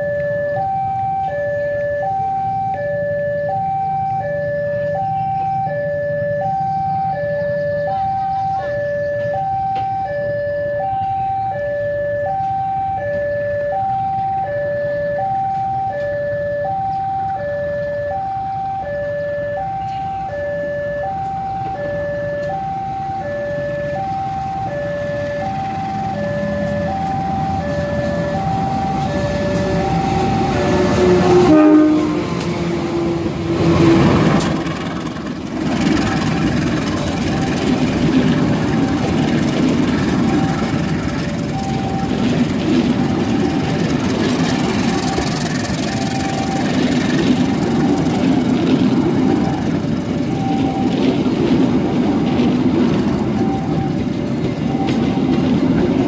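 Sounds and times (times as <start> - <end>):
diesel locomotive engine: 0.0 - 56.0
level crossing alarm tones: 0.0 - 56.0.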